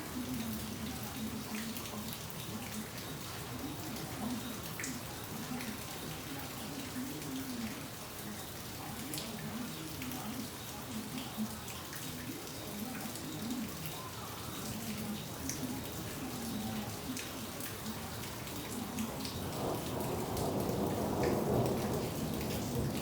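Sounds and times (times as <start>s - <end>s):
raindrops dripping and splattering: 0.0s - 23.0s
steady rain: 0.0s - 23.0s.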